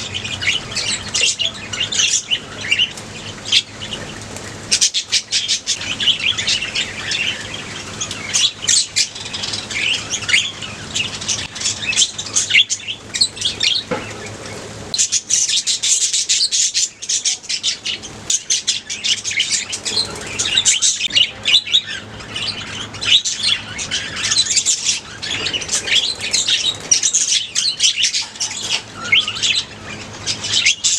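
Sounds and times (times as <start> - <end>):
budgerigars chirping: 0.0 - 30.9.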